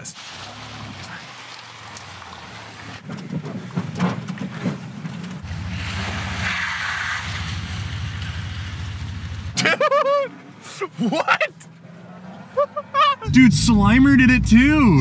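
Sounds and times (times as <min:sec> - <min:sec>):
tyres splashing through puddles: 0:00.0 - 0:13.9
car engine under load: 0:00.2 - 0:09.6, 0:11.6 - 0:15.0.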